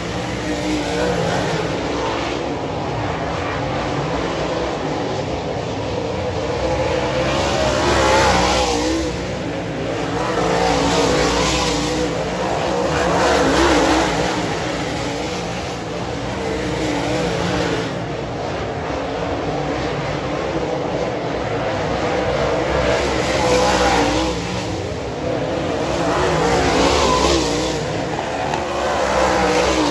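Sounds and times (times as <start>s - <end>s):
race car engines passing: 0.0s - 29.9s.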